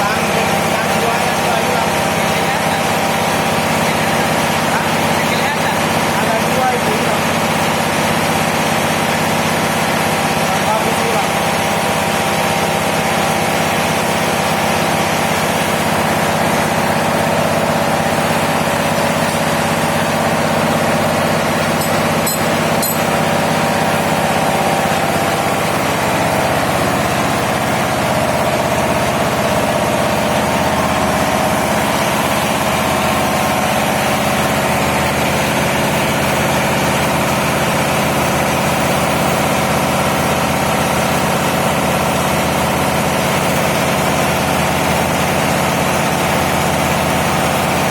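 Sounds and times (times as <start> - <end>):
diesel engine droning: 9.4 - 47.9.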